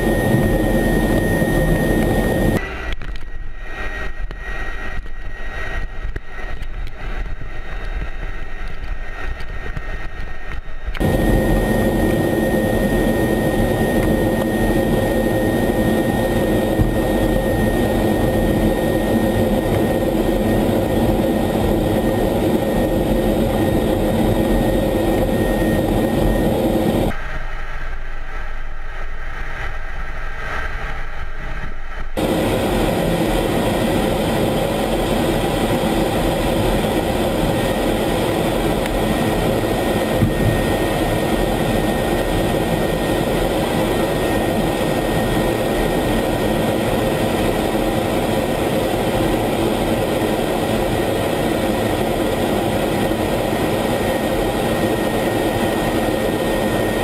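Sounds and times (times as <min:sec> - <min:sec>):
faint steady whine: 0:00.0 - 0:57.0
jet engine and airflow noise: 0:00.0 - 0:57.0.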